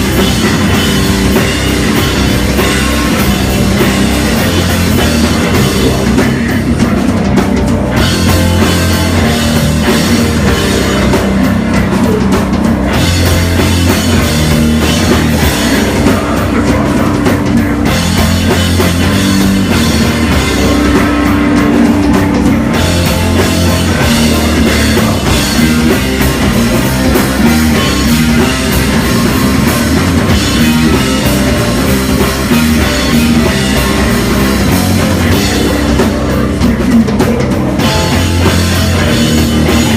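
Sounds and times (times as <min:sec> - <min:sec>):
bass guitar: 0:00.0 - 0:39.9
distorted electric guitar: 0:00.0 - 0:39.9
drum kit with cymbals: 0:00.0 - 0:39.9.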